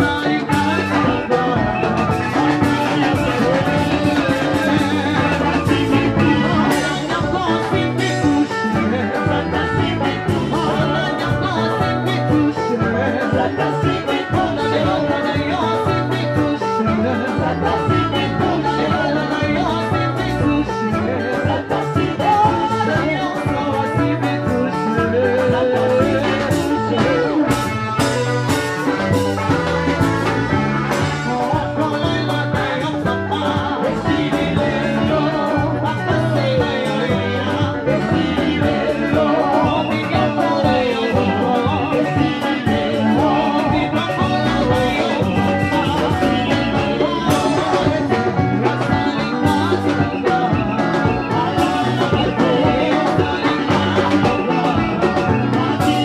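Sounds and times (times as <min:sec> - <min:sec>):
drums: 0:00.0 - 0:56.0
electric guitar: 0:00.0 - 0:56.0
women singing: 0:00.0 - 0:56.0.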